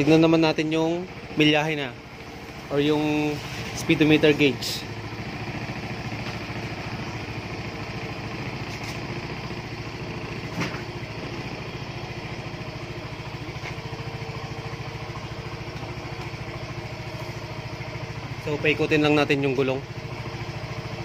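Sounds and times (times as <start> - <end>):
scooter engine idling: 0.0 - 21.0.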